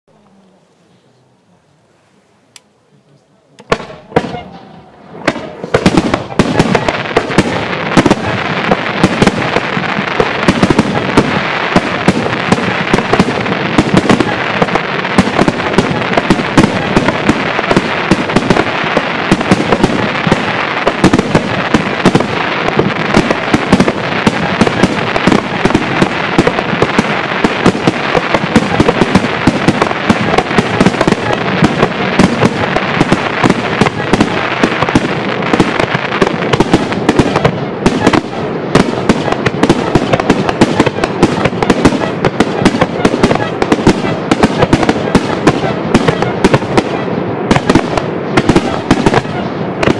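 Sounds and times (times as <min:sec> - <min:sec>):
fireworks bursts and crackling: 0:03.6 - 0:49.9.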